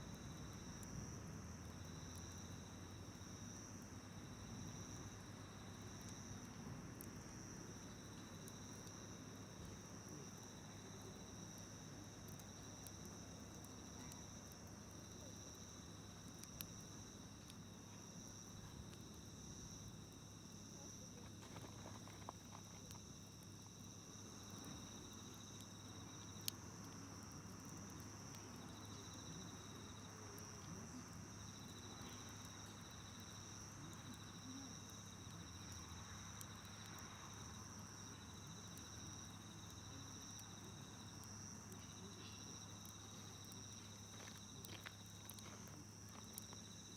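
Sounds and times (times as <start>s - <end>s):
campfire pops: 0.0s - 46.9s
insects trilling: 0.0s - 46.9s.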